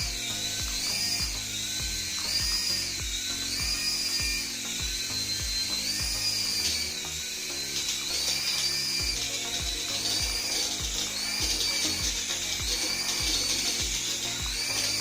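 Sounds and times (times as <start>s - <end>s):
background music drum beat: 0.0s - 6.8s, 8.3s - 15.0s
high whine: 0.0s - 15.0s.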